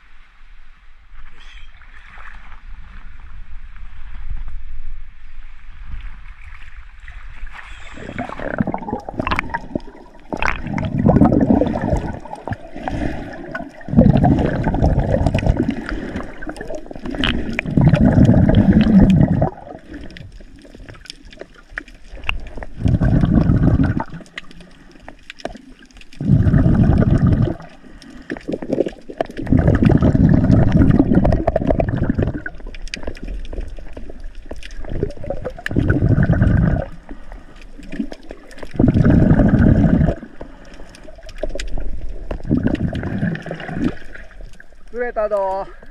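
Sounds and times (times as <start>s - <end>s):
underwater water sloshing: 1.1s - 45.9s
faint clicks and crackles: 3.6s - 45.9s.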